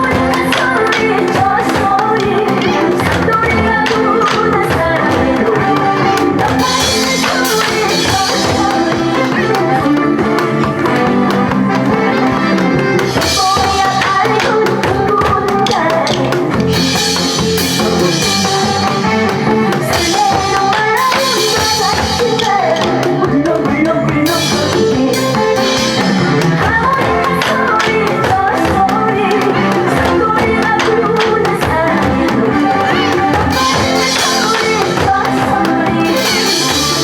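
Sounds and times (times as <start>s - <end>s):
drums struck in time: 0.0s - 37.0s
person singing: 0.0s - 37.0s
song music: 0.0s - 37.0s.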